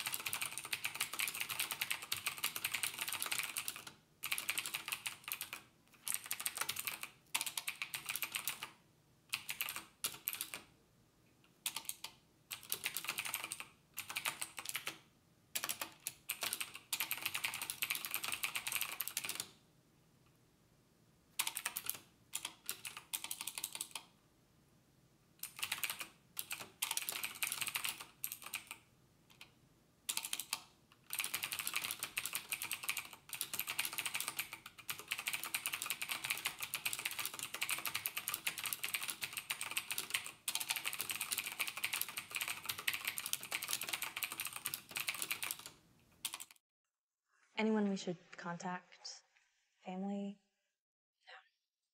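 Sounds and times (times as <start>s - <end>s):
fast typing on keyboard: 0.0s - 10.7s, 11.6s - 19.6s, 21.4s - 24.1s, 25.4s - 29.5s, 30.1s - 46.6s.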